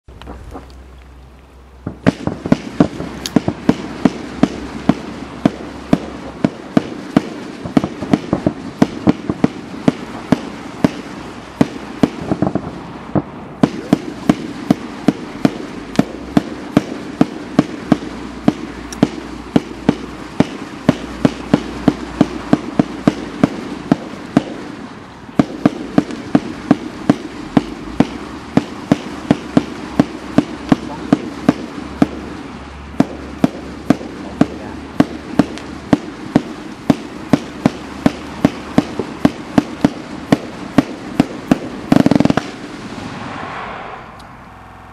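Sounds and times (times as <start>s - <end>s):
firework crackling: 0.1s - 44.9s
firework launch thumps: 1.8s - 32.3s, 33.0s - 44.4s.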